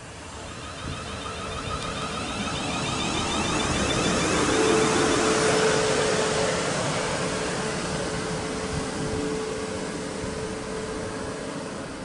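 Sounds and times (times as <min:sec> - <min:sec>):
train traction whine: 0:00.0 - 0:12.0
train wheels rumbling on rails: 0:00.0 - 0:12.0.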